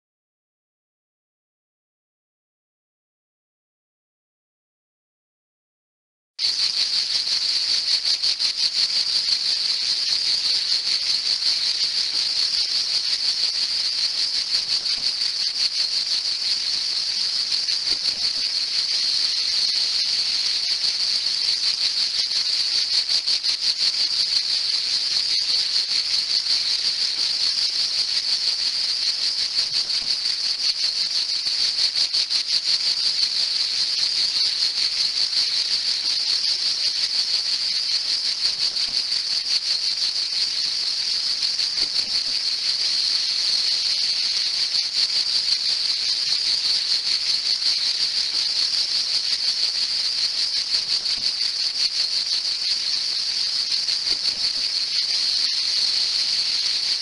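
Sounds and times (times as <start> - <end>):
cicadas singing: 6.4 - 57.0.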